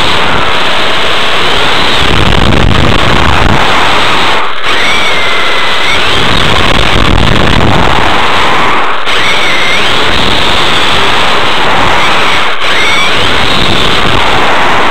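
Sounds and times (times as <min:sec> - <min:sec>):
electric motor whine: 0:00.0 - 0:14.9
tyre and wind noise: 0:00.0 - 0:14.9.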